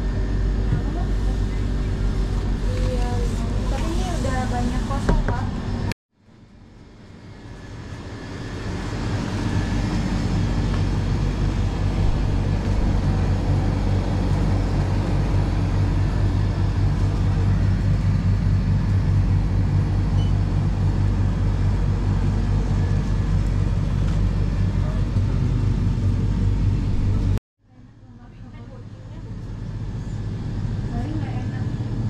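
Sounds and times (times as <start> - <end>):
refrigerated cabinets humming: 0.0 - 27.4, 28.0 - 32.0.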